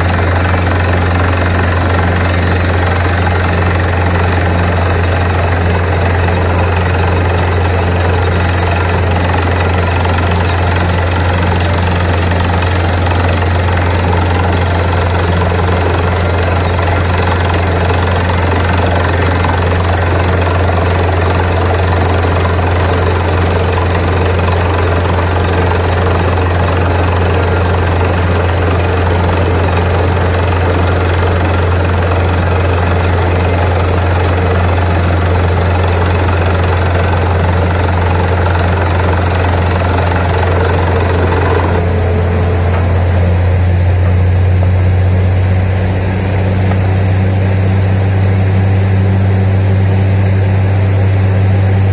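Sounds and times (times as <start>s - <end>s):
drilling rig engine drone: 0.0s - 51.9s.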